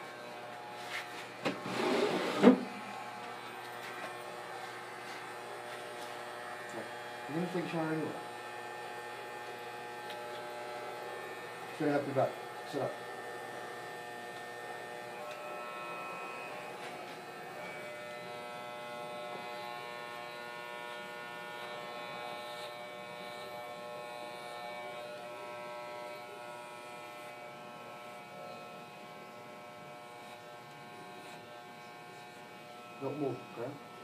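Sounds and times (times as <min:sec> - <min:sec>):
electric hair clippers buzzing: 0:00.0 - 0:34.0.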